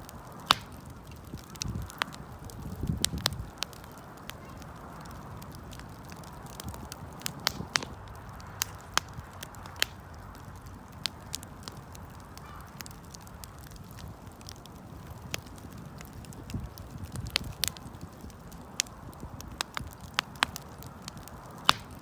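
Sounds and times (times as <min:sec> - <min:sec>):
fire crackling and popping: 0:00.0 - 0:22.0
fire low rush: 0:00.0 - 0:22.0.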